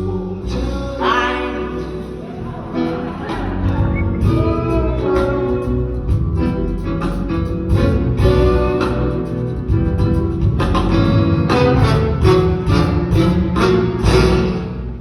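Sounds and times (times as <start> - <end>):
band playing instrumental music: 0.0 - 15.0.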